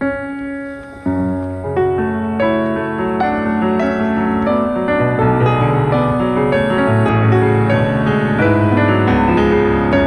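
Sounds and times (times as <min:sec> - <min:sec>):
gentle piano music: 0:00.0 - 0:10.0.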